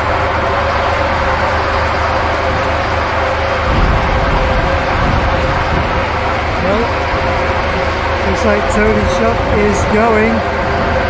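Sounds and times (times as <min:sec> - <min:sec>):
deep low rumble: 0:00.0 - 0:11.0
excavator mechanical drone: 0:00.0 - 0:11.0.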